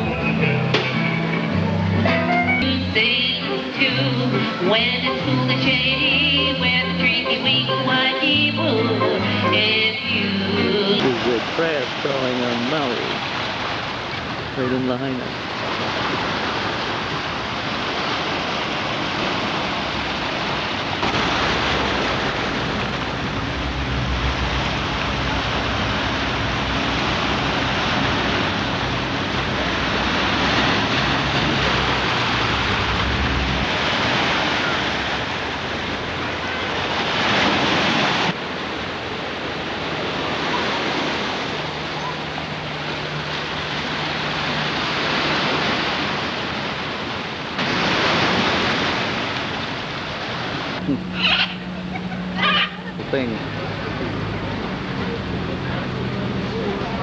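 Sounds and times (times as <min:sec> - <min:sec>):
low engine hum: 0:00.0 - 0:57.0
ocean surf washing in: 0:00.0 - 0:57.0.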